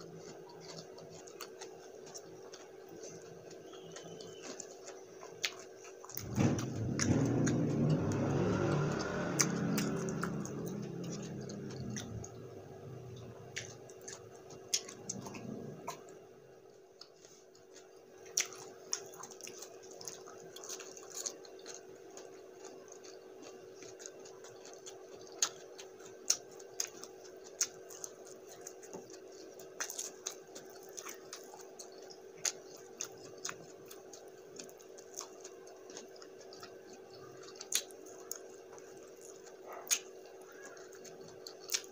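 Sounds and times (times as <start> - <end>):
chewing with mouth clicks: 0.0 - 41.9
faint steady hum: 0.0 - 41.9.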